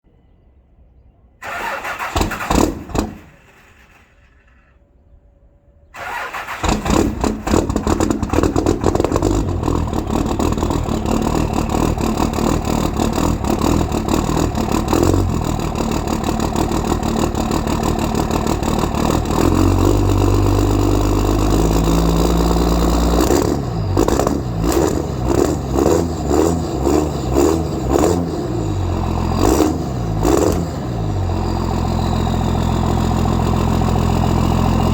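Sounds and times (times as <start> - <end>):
diesel engine idling and revving: 1.4 - 4.6, 6.0 - 34.9.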